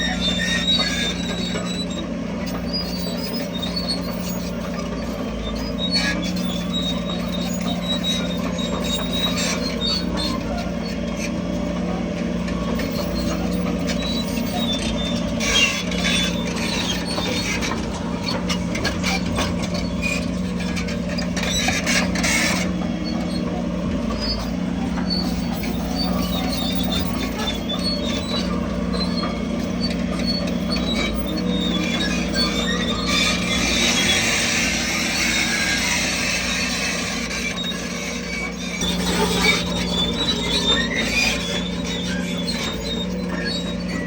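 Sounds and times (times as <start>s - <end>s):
diesel machinery engine running: 0.0s - 44.0s
metallic squeaks and rattles: 0.0s - 44.0s.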